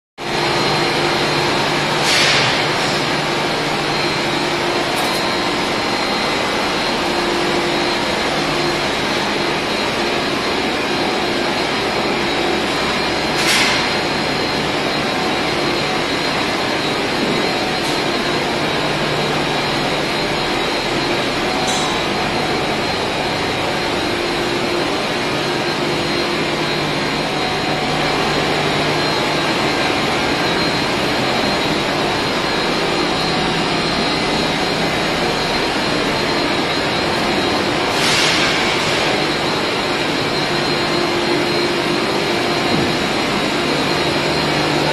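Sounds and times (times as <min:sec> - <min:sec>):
refrigeration compressors droning: 0:00.2 - 0:44.9.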